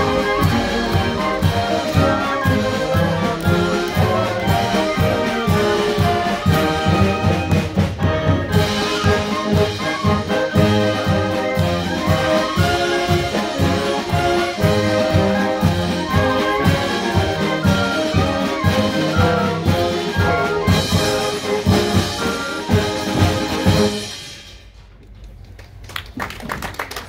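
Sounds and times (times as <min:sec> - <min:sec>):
concert band playing: 0:00.0 - 0:25.1.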